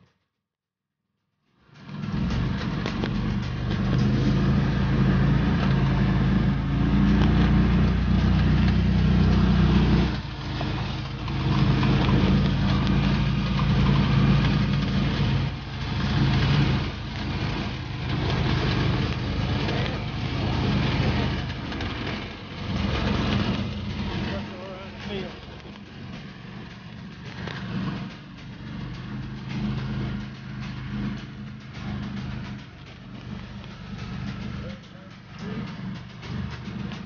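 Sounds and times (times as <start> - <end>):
atv engine running: 1.6 - 37.0.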